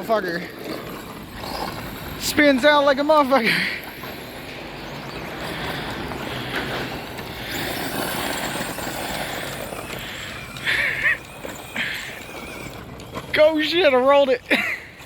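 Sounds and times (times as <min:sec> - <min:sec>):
rc trucks motors whirring: 0:00.0 - 0:15.0.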